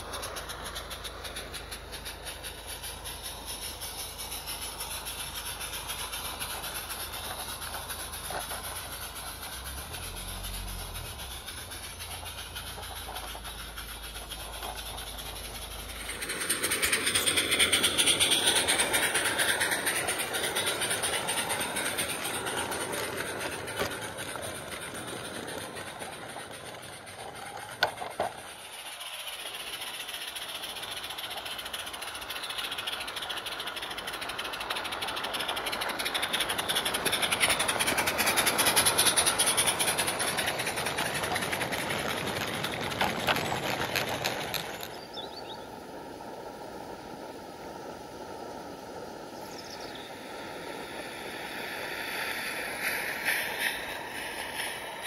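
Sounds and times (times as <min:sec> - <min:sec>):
hissing steam: 0:00.0 - 0:55.0
small wheels clattering on track: 0:00.0 - 0:55.0.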